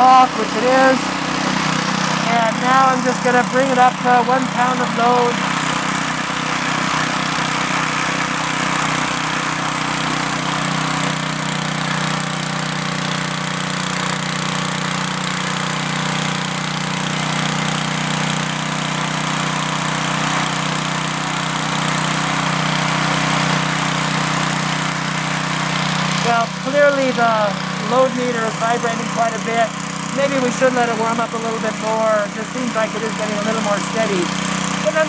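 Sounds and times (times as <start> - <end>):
single-cylinder engine running: 0.0 - 35.0.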